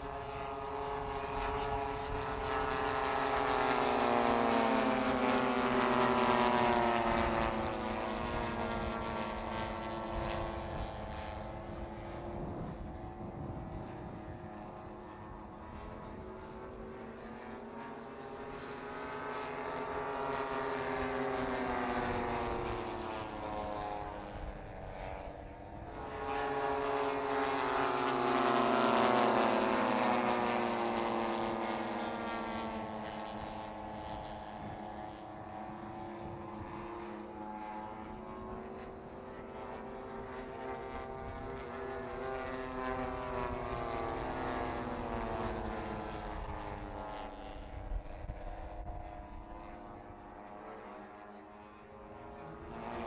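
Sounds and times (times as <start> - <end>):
model plane propeller engines: 0.0 - 53.0.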